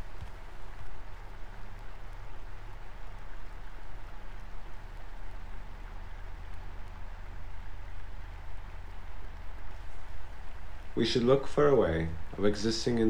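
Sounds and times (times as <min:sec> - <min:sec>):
low hum: 0:00.0 - 0:13.0
steady hiss: 0:00.0 - 0:13.0.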